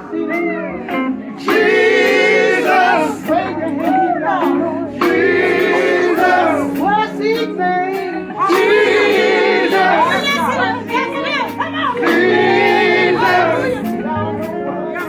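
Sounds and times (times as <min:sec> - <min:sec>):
gospel group singing: 0:00.0 - 0:15.0
band accompaniment: 0:01.4 - 0:15.0.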